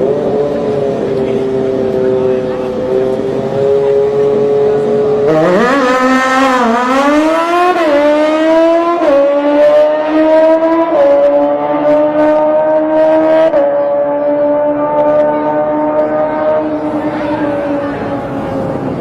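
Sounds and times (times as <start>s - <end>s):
engine accelerating through gears: 0.0s - 19.0s.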